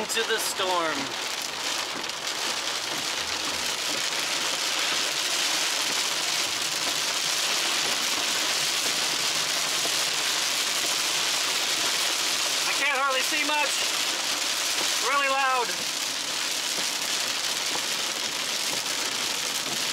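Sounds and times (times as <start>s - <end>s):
heavy rain on vehicle roof: 0.0s - 19.9s.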